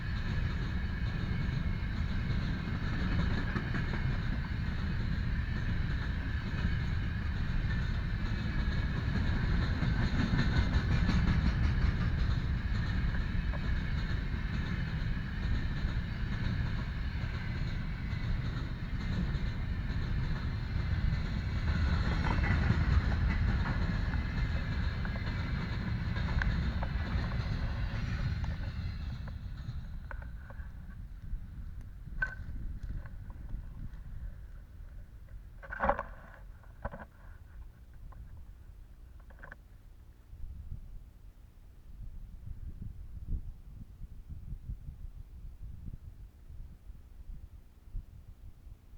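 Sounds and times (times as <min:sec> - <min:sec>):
train wheels rumbling and clattering: 0:00.0 - 0:39.6.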